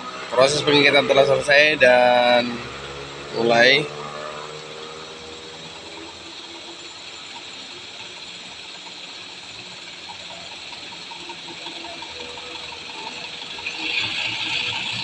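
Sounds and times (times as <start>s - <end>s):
faint diesel truck engine: 0.0s - 15.0s.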